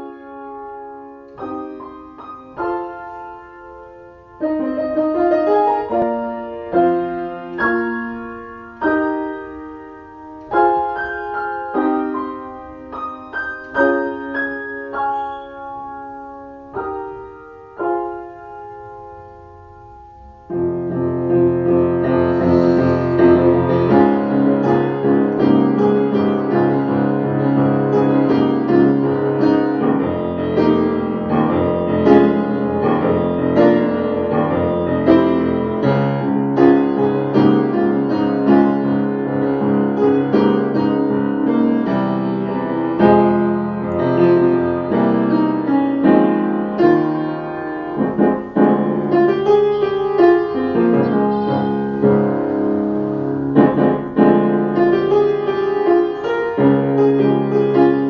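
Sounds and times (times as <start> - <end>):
slow piano piece: 0.0 - 58.0.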